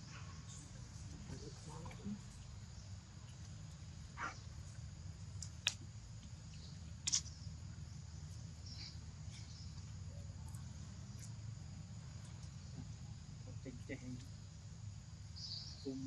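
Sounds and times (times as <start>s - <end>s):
faint insect-like hiss: 0.0s - 16.0s
steady low hum: 0.0s - 16.0s.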